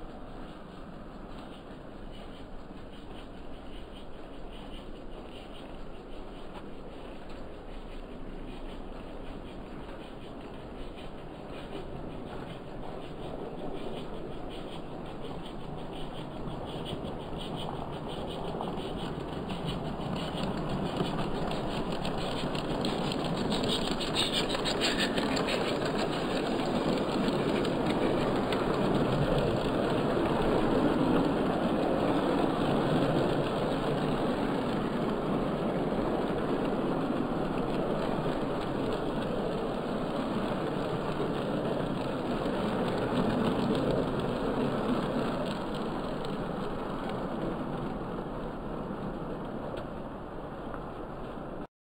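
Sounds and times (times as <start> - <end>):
model train running on track: 0.0 - 51.7.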